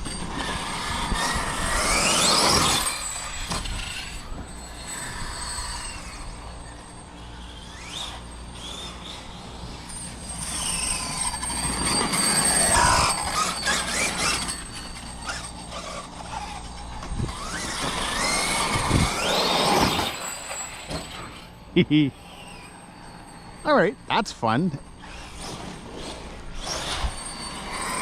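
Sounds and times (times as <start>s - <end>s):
electric motor whine: 0.0s - 23.8s.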